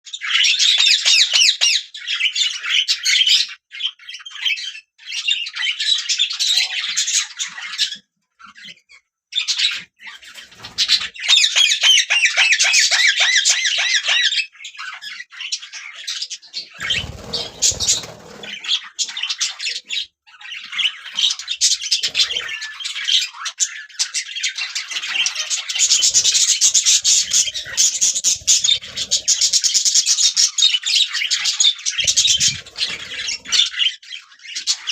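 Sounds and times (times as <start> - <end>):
budgerigars chirping and warbling: 0.1 - 34.9.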